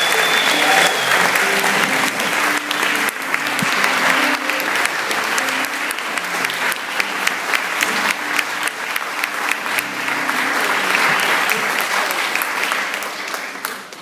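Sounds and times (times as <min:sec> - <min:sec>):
audience clapping: 0:00.0 - 0:14.0
faint piano playing: 0:00.1 - 0:12.7.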